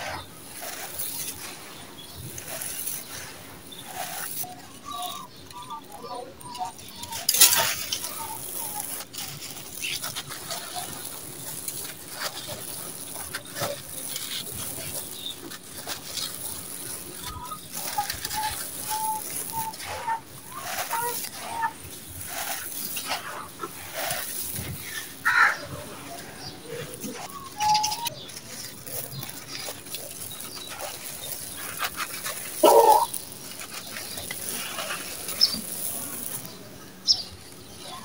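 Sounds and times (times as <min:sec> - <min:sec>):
birds calling: 0:00.0 - 0:38.0
gritty sand crunching in hands: 0:00.0 - 0:38.0.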